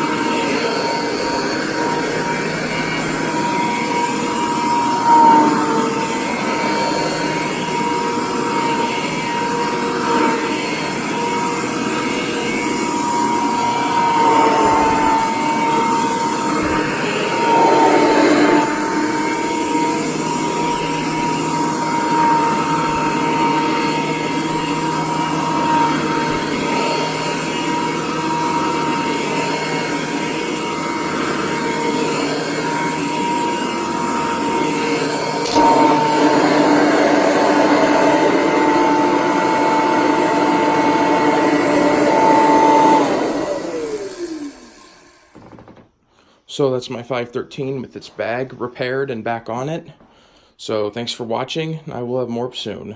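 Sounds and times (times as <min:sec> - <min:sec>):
vacuum cleaner whining: 0:00.0 - 0:46.7.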